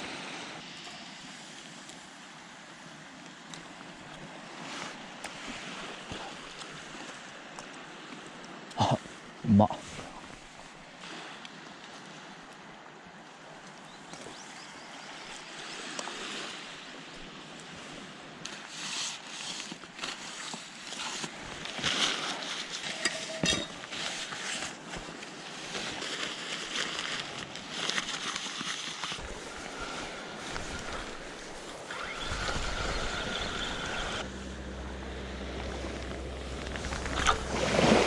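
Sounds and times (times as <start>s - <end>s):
sea waves washing on shore: 0.0s - 38.0s.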